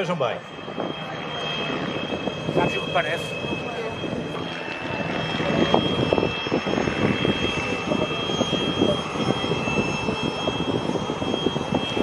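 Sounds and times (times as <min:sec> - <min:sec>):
propeller plane engine rumble: 0:00.0 - 0:12.0.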